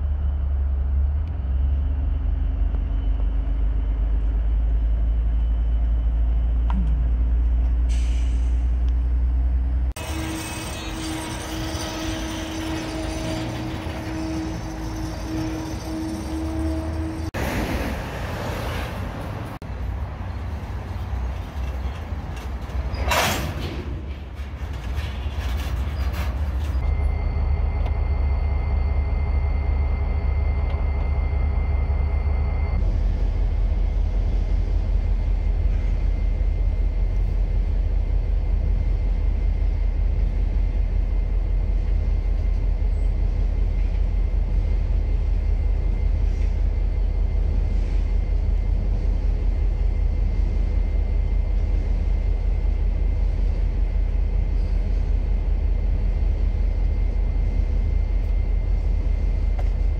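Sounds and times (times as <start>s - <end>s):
diesel locomotives rumbling: 0.0s - 59.9s
freight cars rolling on rails: 0.0s - 59.9s.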